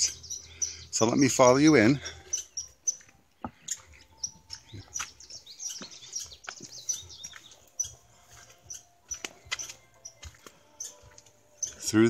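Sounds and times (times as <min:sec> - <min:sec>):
small birds chirping: 0:00.0 - 0:12.0
footsteps on stone path: 0:01.4 - 0:12.0.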